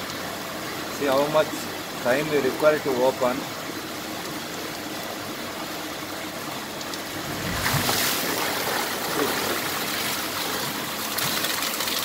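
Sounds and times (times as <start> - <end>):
water gushing and splashing: 0.0 - 12.0
water rushing: 0.0 - 12.0.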